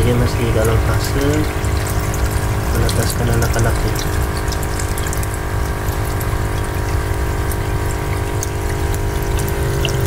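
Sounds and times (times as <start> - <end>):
electric water pump humming: 0.0 - 10.0
water splashing into tank: 0.0 - 10.0.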